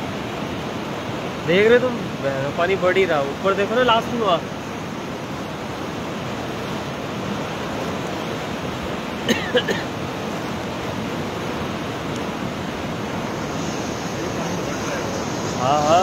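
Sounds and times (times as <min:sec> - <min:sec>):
flooded river roaring: 0:00.0 - 0:16.0.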